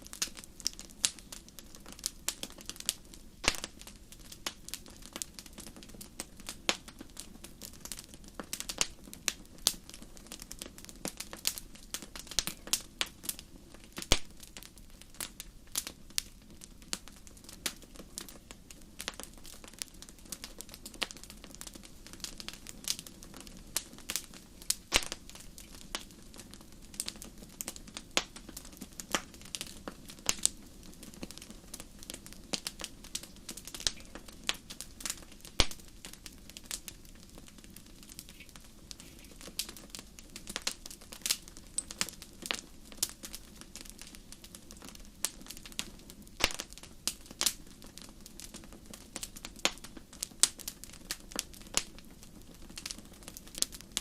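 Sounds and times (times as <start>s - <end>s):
fire crackling and popping: 0.0s - 54.0s
low rush of flame: 0.1s - 49.2s.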